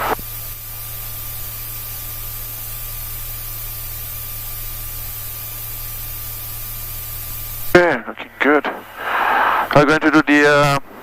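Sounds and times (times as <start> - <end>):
aircraft cockpit noise: 0.0 - 11.0.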